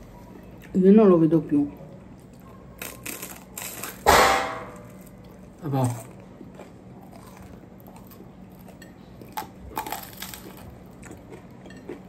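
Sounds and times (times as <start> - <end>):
crusty bread crunching: 2.2 - 12.0.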